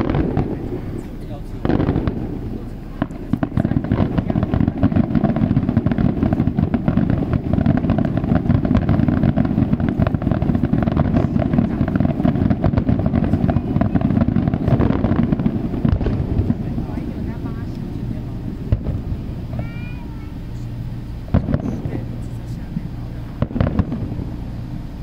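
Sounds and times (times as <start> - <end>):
fireworks crackles and pops: 0.0 - 25.0
fireworks rumbling: 0.0 - 25.0.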